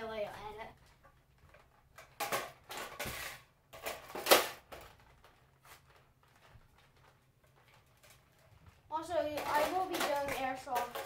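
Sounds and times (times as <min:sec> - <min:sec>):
plastic knocking and rustling: 0:00.2 - 0:11.0.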